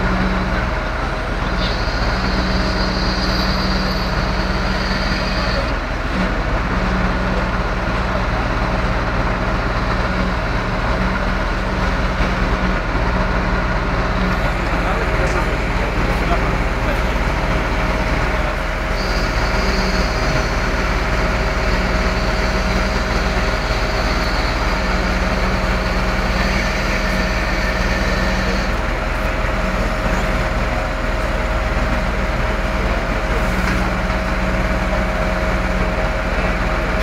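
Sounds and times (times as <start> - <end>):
heavy vehicle engine running: 0.0 - 37.0
steady engine whine: 0.0 - 37.0.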